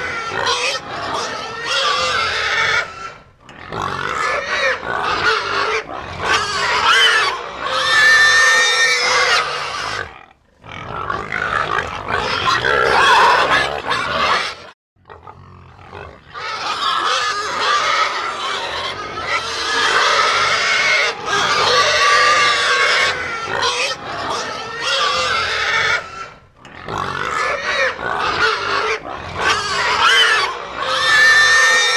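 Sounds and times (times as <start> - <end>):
pig grunts and oinks: 0.0 - 31.9.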